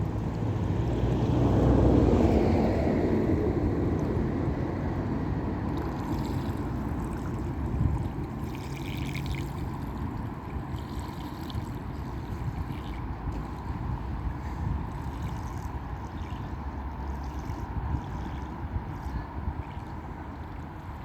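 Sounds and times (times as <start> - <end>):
water splashing and churning: 0.0 - 21.0.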